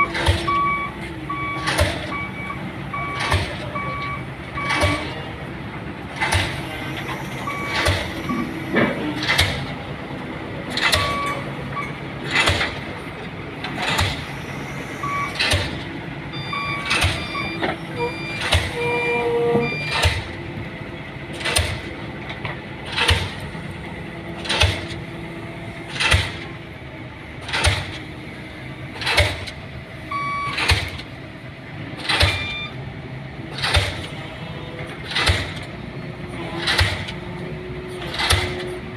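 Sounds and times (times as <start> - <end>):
crane engine running: 0.0 - 38.9.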